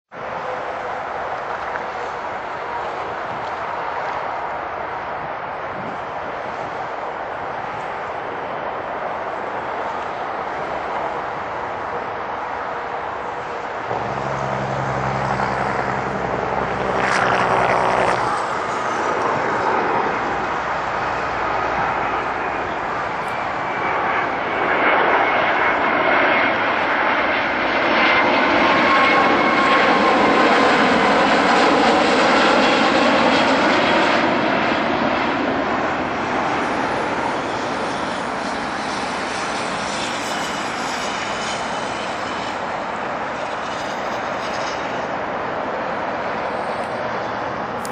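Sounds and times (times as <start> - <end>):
jet engines rushing: 0.2 - 47.9
wavering engine whine: 0.2 - 47.9.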